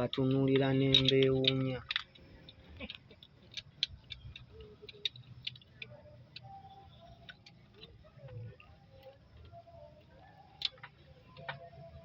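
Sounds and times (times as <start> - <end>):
light clicks and ticks: 0.0 - 11.8.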